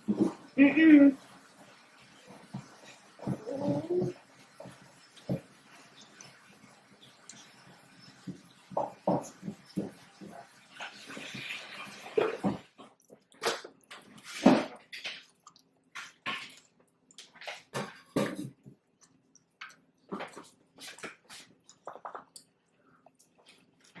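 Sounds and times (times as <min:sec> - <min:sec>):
wet chewing sounds: 0:01.6 - 0:24.0.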